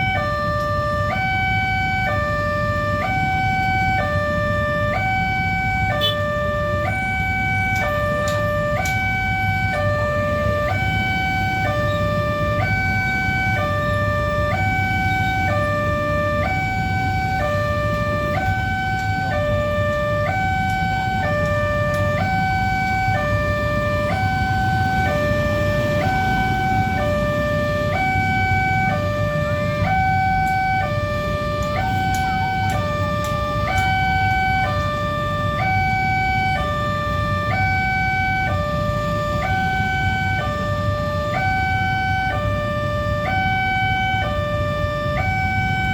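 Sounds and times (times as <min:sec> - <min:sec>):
two-tone crossing siren: 0:00.0 - 0:45.9.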